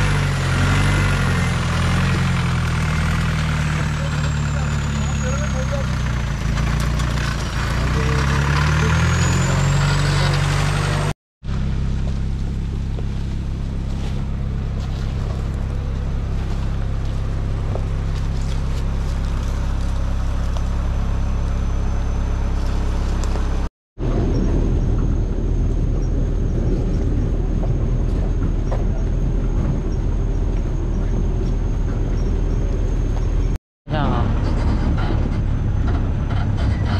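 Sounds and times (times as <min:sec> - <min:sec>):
jeep engine revving: 0:00.0 - 0:36.9
off-road engine running: 0:00.0 - 0:36.9.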